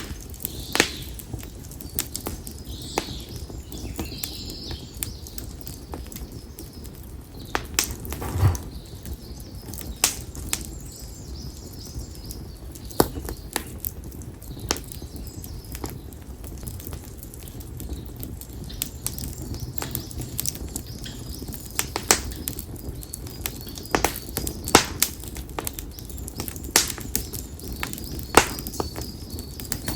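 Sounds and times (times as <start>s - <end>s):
campfire crackling: 0.0s - 29.9s
low fire rumble: 0.0s - 29.9s.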